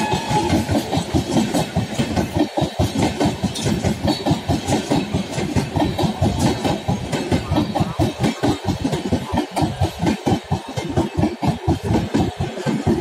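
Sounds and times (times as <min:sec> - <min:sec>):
train passing at speed: 0:00.0 - 0:13.0
wheels clickety-clack over rail joints: 0:00.0 - 0:13.0.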